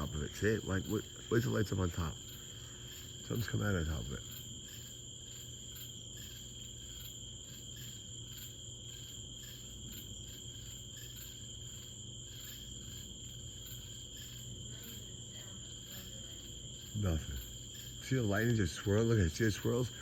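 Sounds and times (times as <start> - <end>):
night insects chirping: 0.0 - 20.0.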